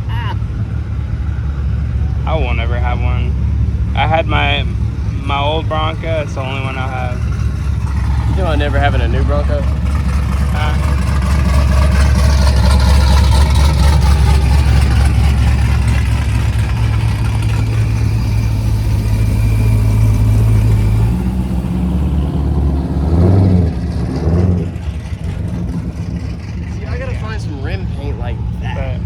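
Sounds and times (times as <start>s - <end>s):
truck engine idling: 0.0s - 29.0s
truck engine revving: 0.0s - 29.0s.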